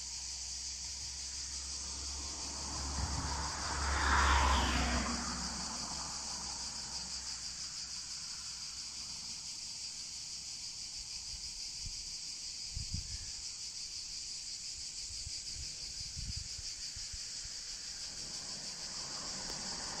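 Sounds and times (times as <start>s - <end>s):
pulsing insect chorus: 0.0s - 20.0s.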